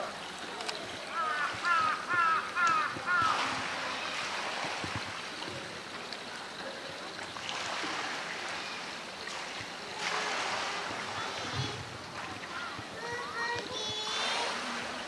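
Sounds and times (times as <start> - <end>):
rush of flowing water: 0.0 - 15.0.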